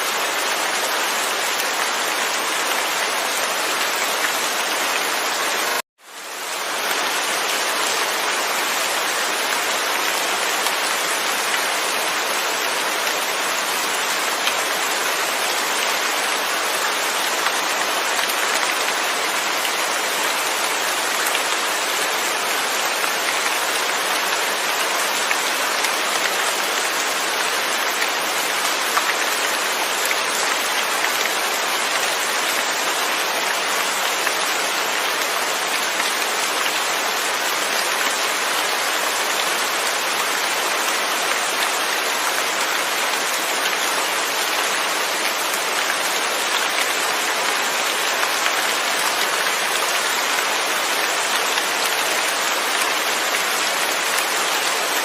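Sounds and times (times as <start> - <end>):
rain falling on a surface: 0.0 - 55.0.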